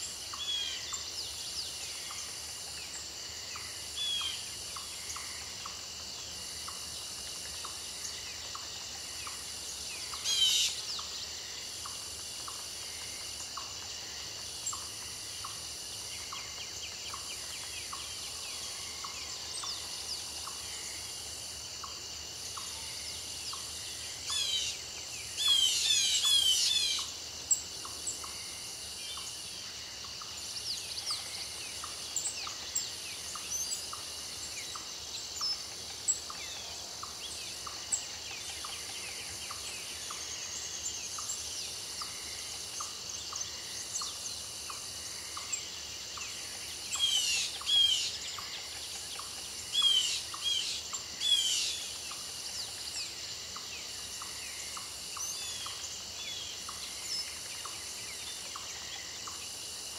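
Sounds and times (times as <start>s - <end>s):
crickets chirping: 0.0s - 59.9s
pulsing insect trill: 0.0s - 59.9s.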